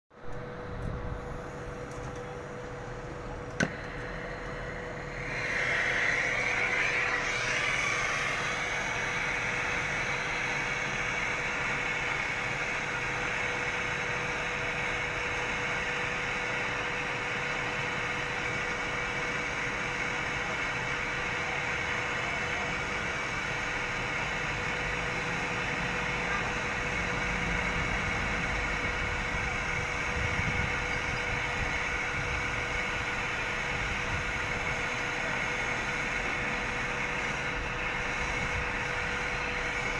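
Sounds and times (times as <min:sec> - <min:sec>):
gas torch hissing: 0:01.2 - 0:39.9.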